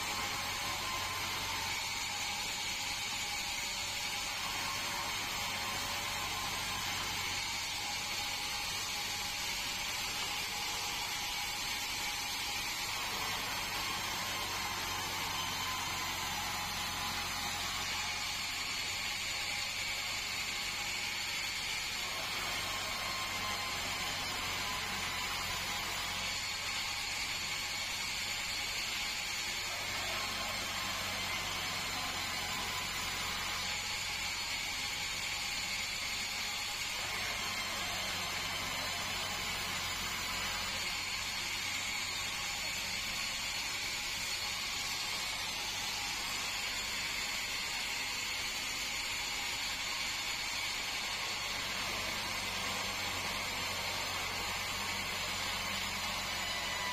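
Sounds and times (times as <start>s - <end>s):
band saw mechanical whir: 0.0s - 56.9s.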